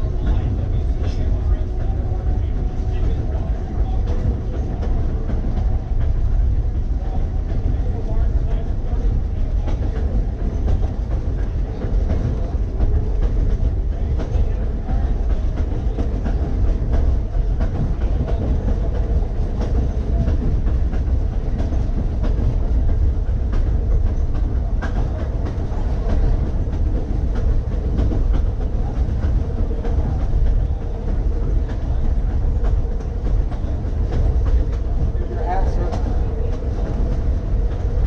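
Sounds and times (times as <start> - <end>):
rail clicks: 0.0 - 38.0
railcar hum: 0.0 - 38.0
steel wheels rumbling on rail: 0.0 - 38.0.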